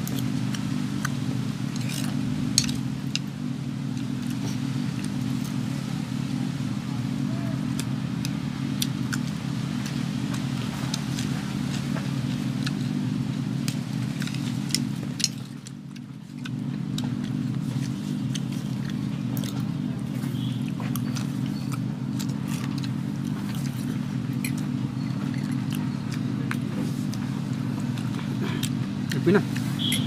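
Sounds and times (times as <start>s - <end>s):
low engine-like drone: 0.0s - 30.0s.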